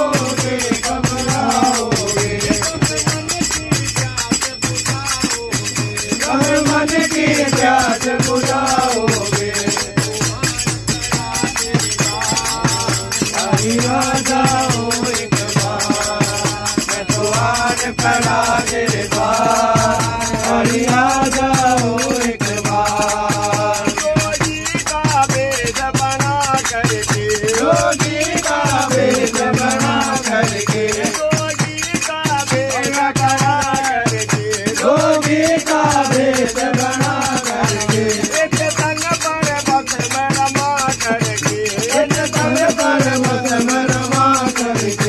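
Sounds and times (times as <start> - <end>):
hand cymbals: 0.0 - 45.0
men singing in unison: 0.0 - 45.0.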